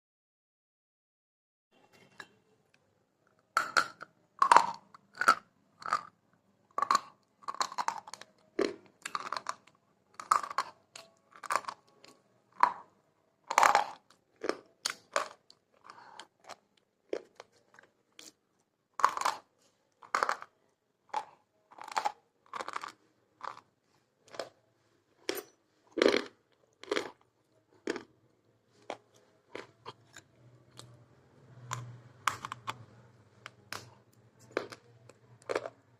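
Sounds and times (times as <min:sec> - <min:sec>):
chewing crunchy food: 0:03.7 - 0:12.9, 0:13.5 - 0:35.9.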